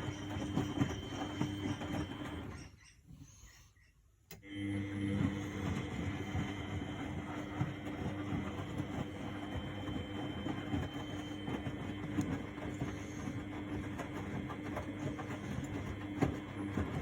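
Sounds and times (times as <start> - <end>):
washing machine running: 0.0 - 3.2, 4.3 - 17.0.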